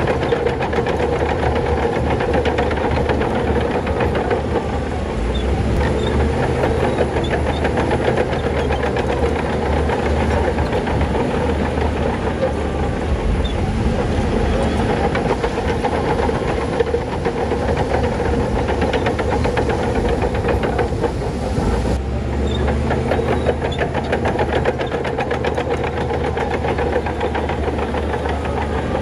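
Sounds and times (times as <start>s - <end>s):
bulldozer diesel engine running: 0.0s - 29.0s
rapid metallic track clatter: 0.0s - 29.0s.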